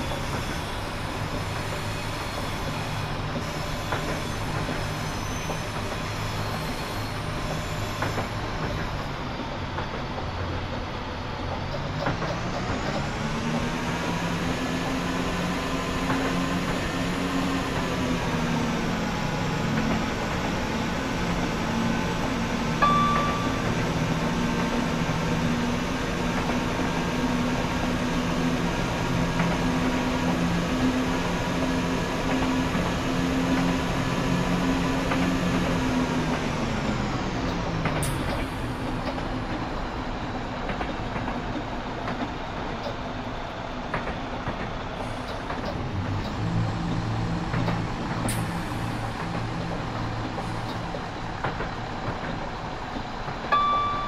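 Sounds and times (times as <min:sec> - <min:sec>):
rail noise: 0:00.0 - 0:54.0
train diesel engine droning: 0:00.0 - 0:54.0.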